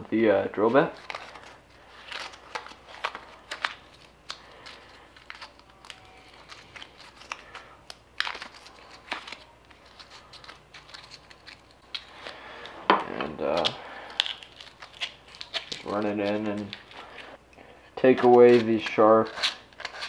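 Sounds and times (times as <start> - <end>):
paper crinkling: 0.6 - 17.4, 18.2 - 20.0.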